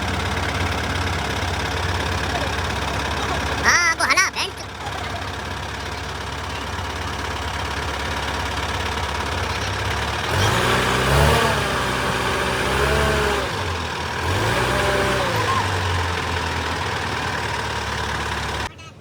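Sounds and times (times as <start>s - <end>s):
voices: 0.0s - 11.2s, 13.4s - 19.0s
engine idling: 0.0s - 19.0s.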